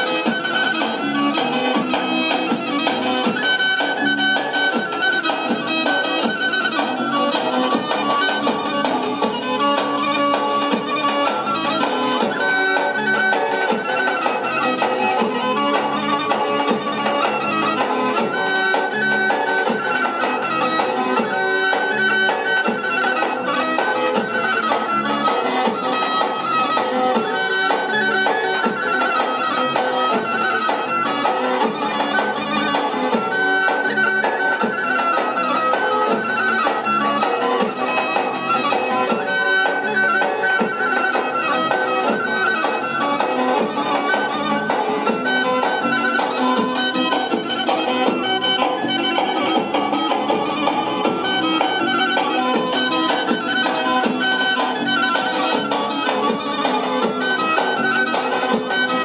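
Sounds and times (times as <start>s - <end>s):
folk dance music with wind instrument: 0.0s - 59.0s.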